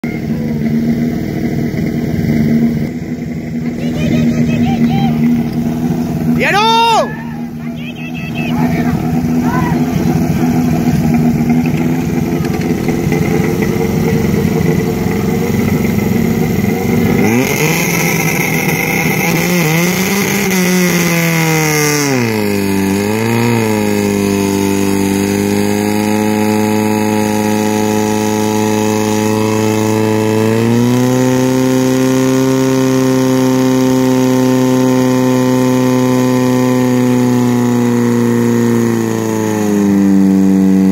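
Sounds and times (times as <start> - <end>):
pump engine running at high revs: 0.0 - 40.9.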